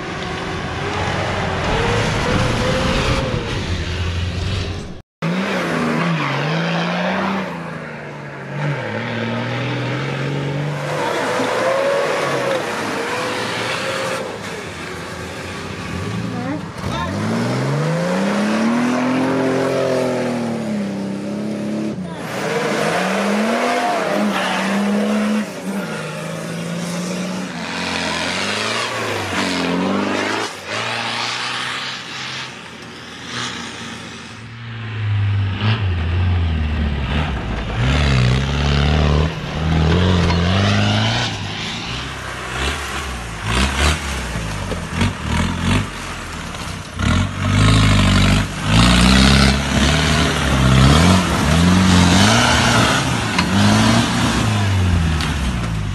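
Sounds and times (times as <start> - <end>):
off-road engines revving: 0.0 - 55.9.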